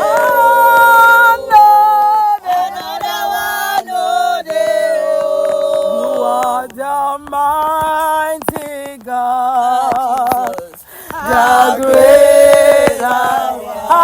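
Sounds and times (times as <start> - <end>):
voices chanting a worship song: 0.0 - 14.0.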